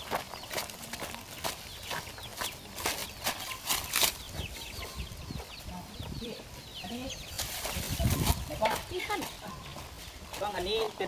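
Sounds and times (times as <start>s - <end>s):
bird chirps: 0.0s - 10.9s
footsteps crunching on dry leaves: 0.0s - 11.0s.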